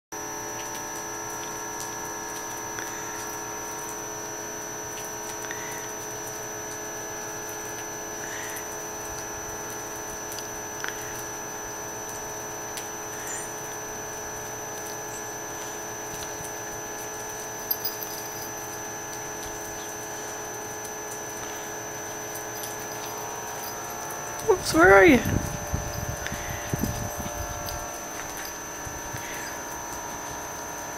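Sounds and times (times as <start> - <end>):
steady electrical hum: 0.2 - 30.9.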